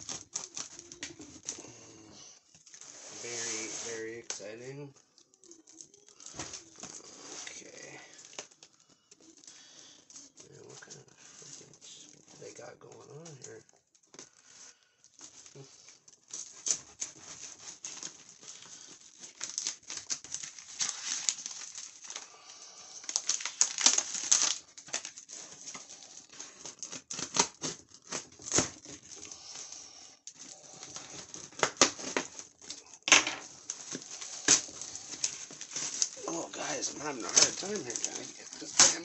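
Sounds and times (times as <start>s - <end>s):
plastic stretch wrap crinkling: 0.0s - 39.0s.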